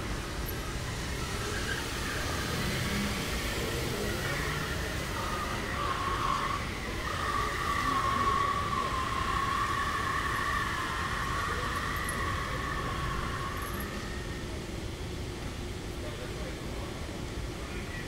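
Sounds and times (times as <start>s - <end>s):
low rumble of terminal hall: 0.0s - 18.0s
wavering whine: 0.0s - 18.0s.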